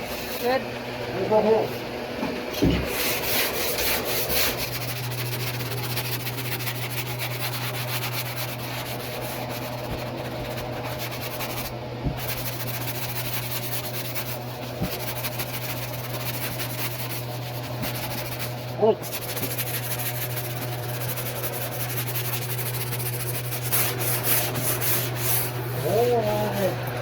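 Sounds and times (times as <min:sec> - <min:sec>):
gritty sanding rubbing: 0:02.8 - 0:27.0.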